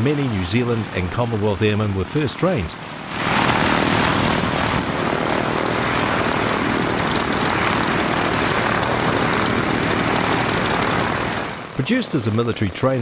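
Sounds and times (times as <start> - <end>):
piston aircraft engine and propeller: 0.0 - 13.0.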